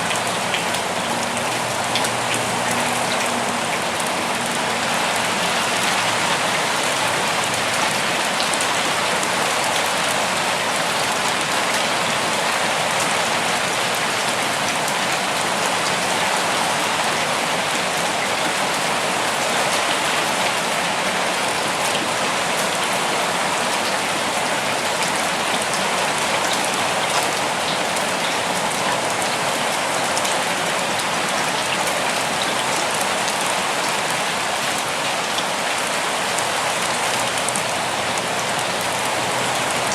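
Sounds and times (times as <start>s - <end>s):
raindrops pattering on surfaces: 0.0s - 39.9s.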